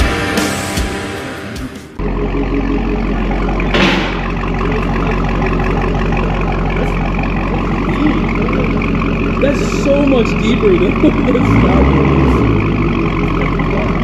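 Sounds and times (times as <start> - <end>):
car engine idling deep rumble: 2.0 - 14.0.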